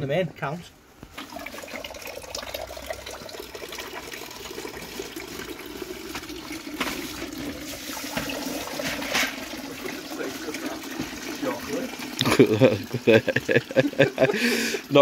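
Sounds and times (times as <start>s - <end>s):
water pouring into pool: 1.1s - 15.0s.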